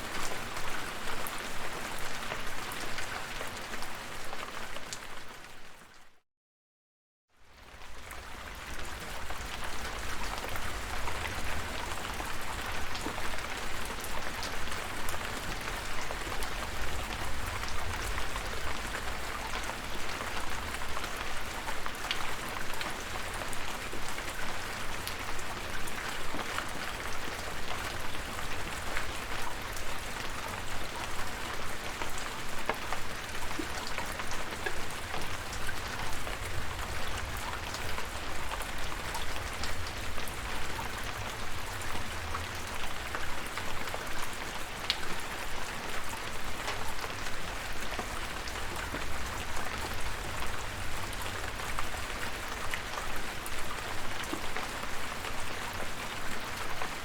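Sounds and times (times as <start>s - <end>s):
steady rain: 0.0s - 6.2s, 7.4s - 57.0s.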